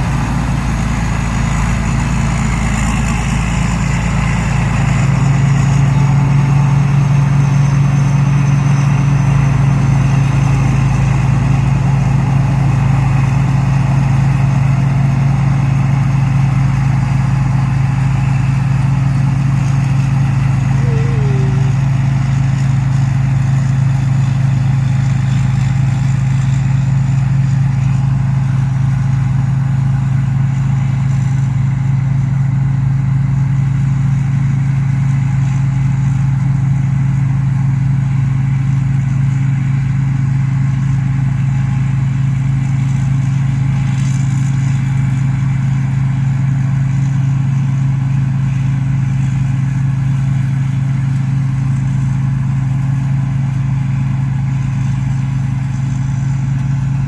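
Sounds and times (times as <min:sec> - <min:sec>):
engine running with low hum: 0:00.0 - 0:57.0.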